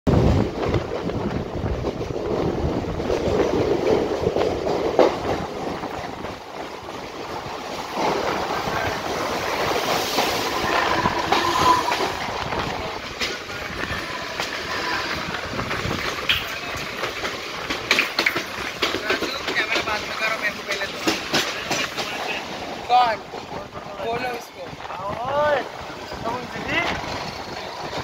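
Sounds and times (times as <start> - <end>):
train wheels clattering: 0.2 - 28.0.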